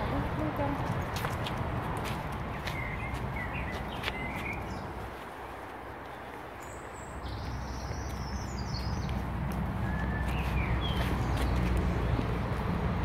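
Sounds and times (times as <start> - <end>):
steady outdoor background noise: 0.0 - 13.0
birds chirping: 2.0 - 13.0.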